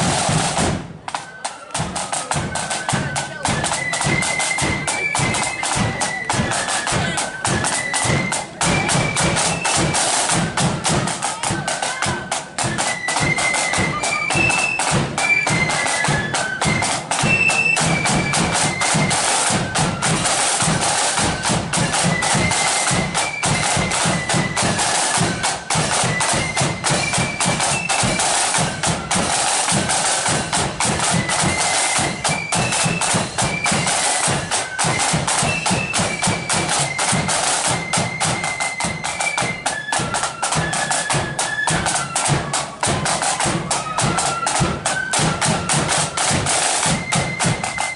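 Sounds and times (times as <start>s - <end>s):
fast snare drumming: 0.0s - 47.9s
flutes playing melody: 0.0s - 47.9s.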